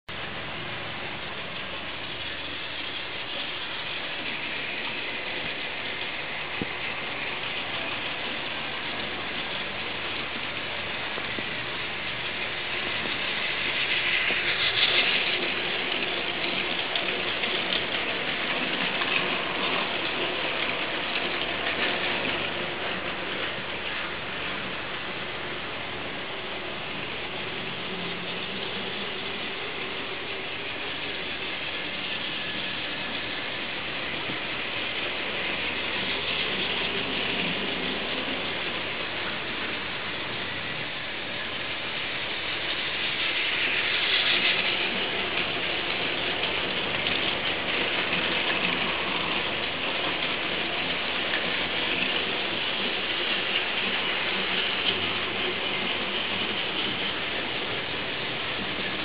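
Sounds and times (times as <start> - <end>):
toy trains whirring rattle: 0.1 - 59.0.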